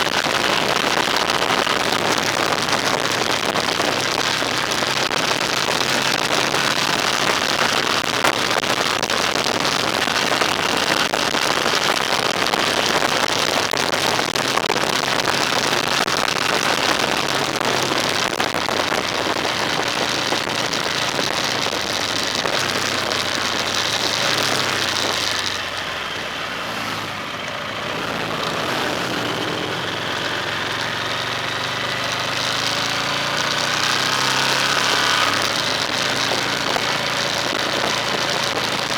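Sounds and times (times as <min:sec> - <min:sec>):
car engine hum: 0:00.0 - 0:38.9
rain hissing on wet road: 0:00.0 - 0:38.9.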